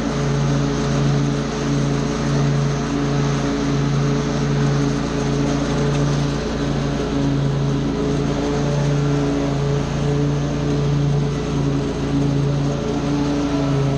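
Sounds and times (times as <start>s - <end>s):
small gasoline engine running: 0.0s - 13.9s.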